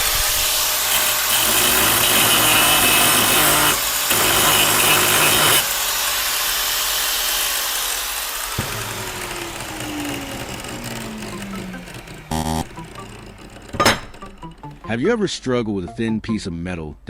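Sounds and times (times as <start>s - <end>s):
angle grinder cutting: 0.0s - 14.9s.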